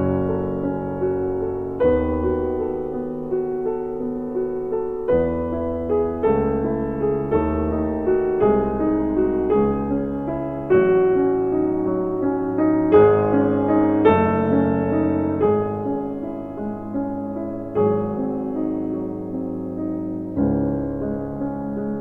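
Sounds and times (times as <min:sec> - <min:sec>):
gentle piano piece: 0:00.0 - 0:22.0.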